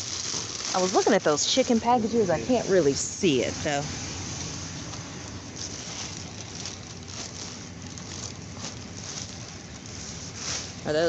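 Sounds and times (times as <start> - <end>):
plastic packaging crinkling: 0.0 - 3.0, 3.7 - 11.0
steady low hum: 0.0 - 11.0.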